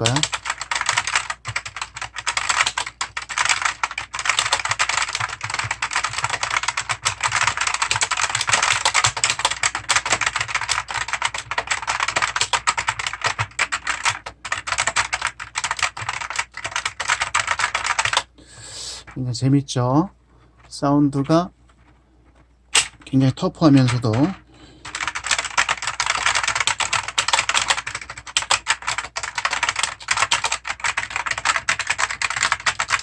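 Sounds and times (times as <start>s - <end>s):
mechanical keyboard typing: 0.0s - 18.3s, 22.8s - 33.0s.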